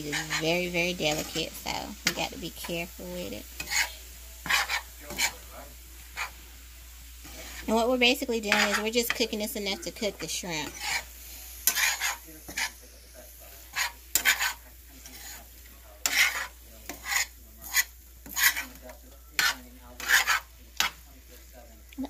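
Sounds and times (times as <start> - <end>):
metal spoon scraping frying pan: 0.0 - 5.5, 6.1 - 6.4, 7.2 - 21.1
faint sizzle of food frying: 0.0 - 22.0.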